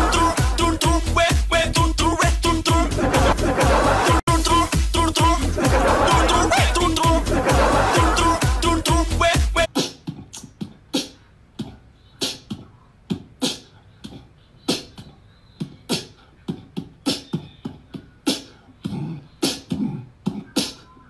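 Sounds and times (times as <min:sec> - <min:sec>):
beatboxing clicks and thumps: 0:00.0 - 0:21.0.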